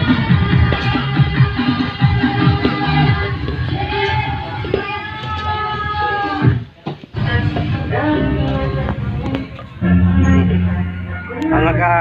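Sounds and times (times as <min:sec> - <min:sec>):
music with bass and steady beat: 0:00.0 - 0:12.0.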